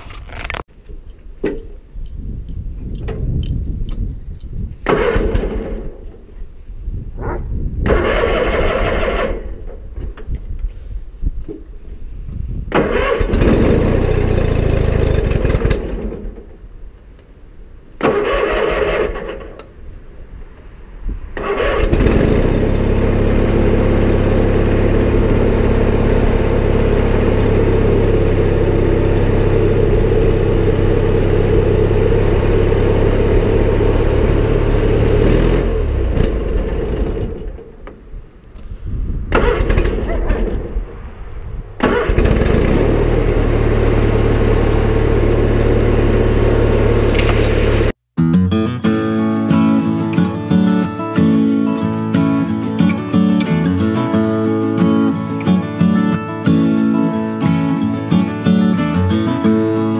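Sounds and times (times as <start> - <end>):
tractor engine running: 0.0 - 6.2, 7.8 - 10.2, 12.7 - 16.5, 18.0 - 19.6, 21.4 - 38.1, 39.3 - 40.9, 41.8 - 48.0, 48.8 - 59.9.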